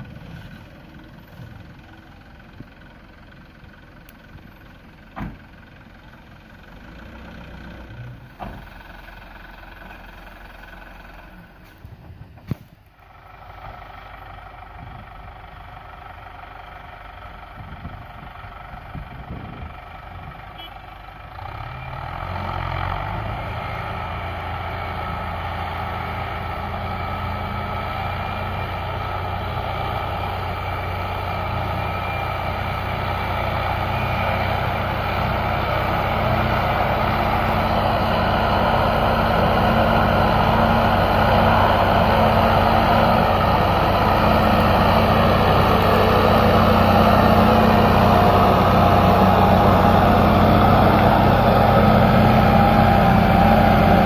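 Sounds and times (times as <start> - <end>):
tractor diesel engine: 0.0 - 54.0
truck diesel engine: 0.0 - 54.0.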